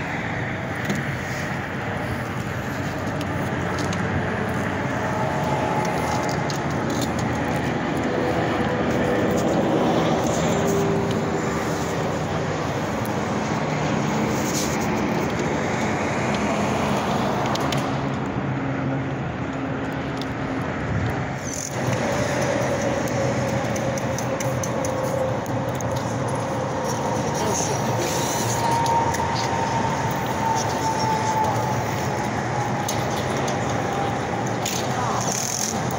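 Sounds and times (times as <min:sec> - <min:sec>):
road traffic roar: 0:00.0 - 0:35.9.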